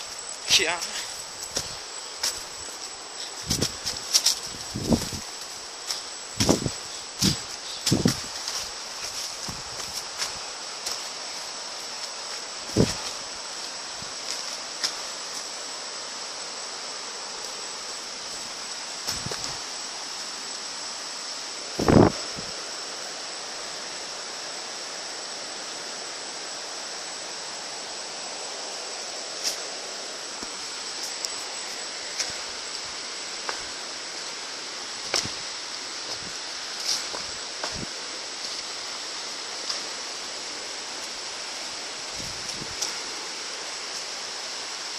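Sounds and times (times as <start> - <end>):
high insect drone: 0.0 - 44.9
river rushing: 0.0 - 44.9.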